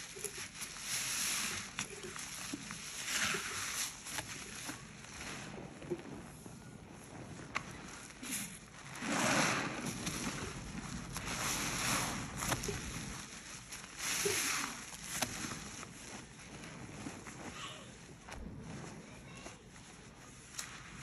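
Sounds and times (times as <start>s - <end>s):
sponge squelching in foamy suds: 0.0s - 21.0s.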